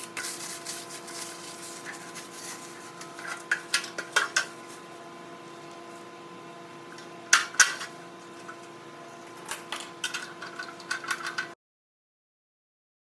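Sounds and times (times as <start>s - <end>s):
steady hum: 0.0s - 11.6s.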